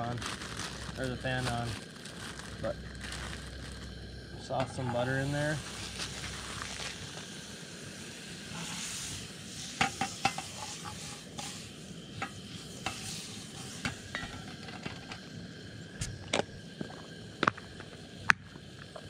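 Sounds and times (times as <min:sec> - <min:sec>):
butter sizzling in a pan: 0:00.0 - 0:19.0
camp stove hiss: 0:00.0 - 0:19.0.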